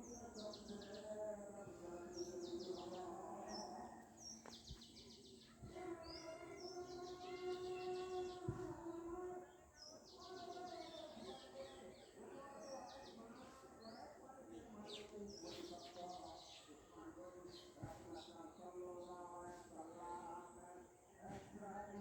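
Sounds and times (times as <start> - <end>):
birds chirping: 0.0 - 22.0
low steady background tone: 0.0 - 22.0.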